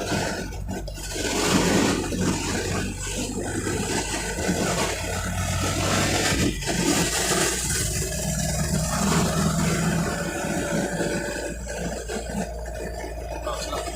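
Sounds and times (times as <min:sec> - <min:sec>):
road and traffic noise: 0:00.0 - 0:13.9
vehicle engine humming: 0:00.0 - 0:13.9.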